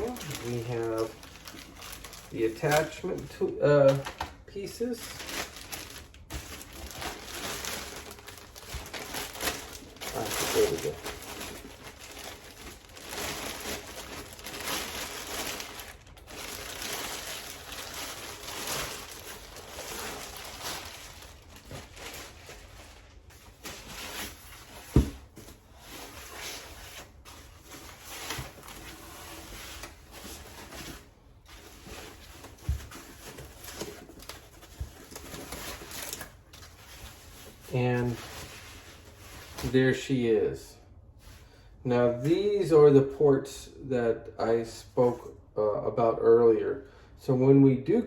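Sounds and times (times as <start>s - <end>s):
packaging rustling and crinkling: 0.0s - 40.0s.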